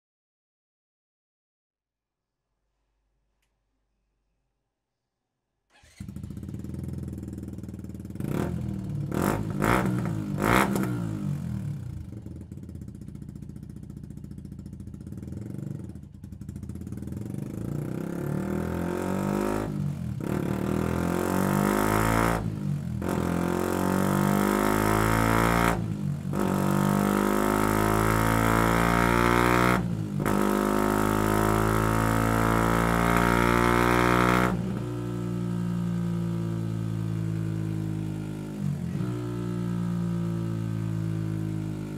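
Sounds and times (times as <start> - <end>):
motorcycle engine revving: 5.7 - 41.9.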